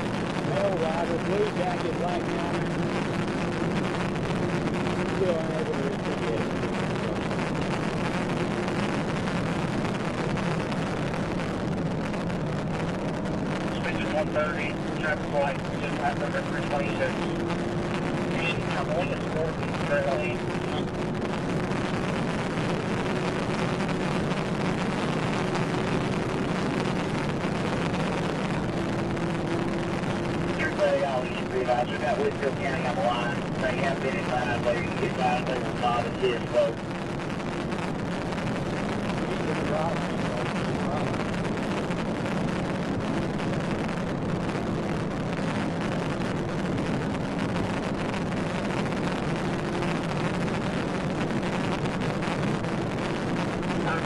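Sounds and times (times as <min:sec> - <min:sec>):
faint steady hum: 0:00.0 - 0:54.0
road wind and engine noise: 0:00.0 - 0:54.0.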